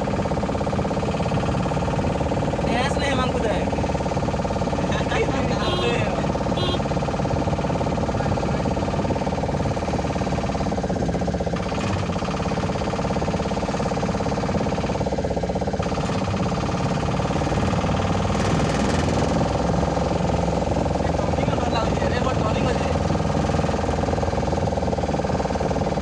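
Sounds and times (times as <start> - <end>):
road and wind noise: 0.0 - 26.0
vehicle engine running: 0.0 - 26.0.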